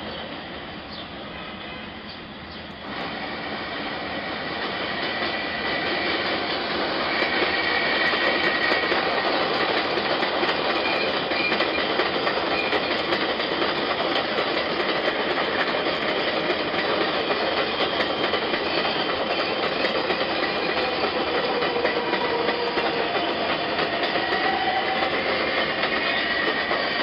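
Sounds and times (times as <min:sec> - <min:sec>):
train wheels clattering on track: 0:02.1 - 0:27.0.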